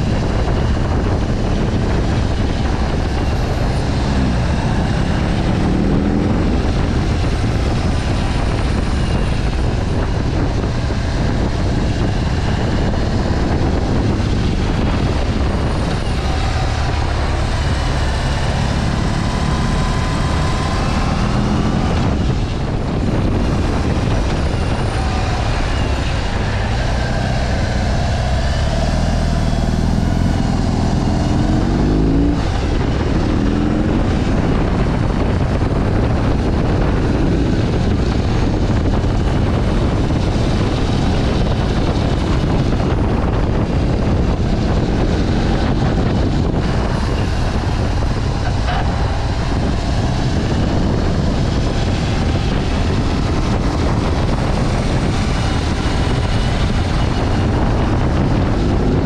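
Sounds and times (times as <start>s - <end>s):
heavy wind noise on microphone: 0.0s - 59.0s
motorcycle engine accelerating: 0.0s - 59.0s.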